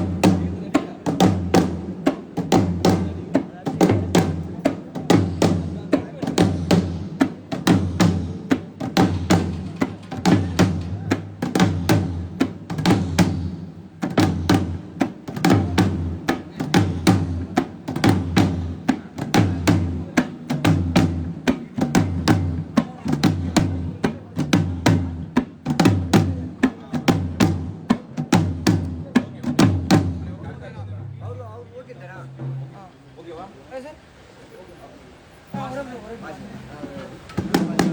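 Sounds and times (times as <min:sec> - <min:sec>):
drums playing fast rhythm: 0:00.0 - 0:33.0, 0:35.5 - 0:37.9.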